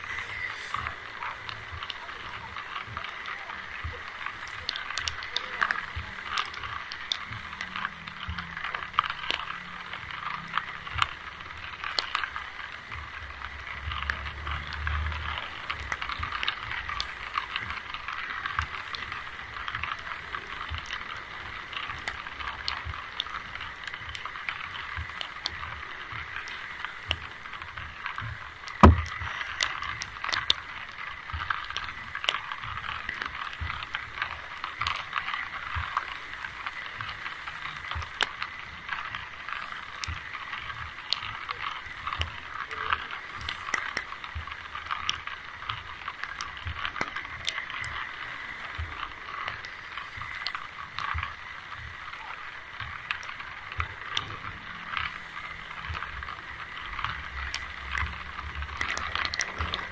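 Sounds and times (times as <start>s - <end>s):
rain hissing and pattering: 0.0s - 59.9s
water drips ticking: 0.0s - 59.9s.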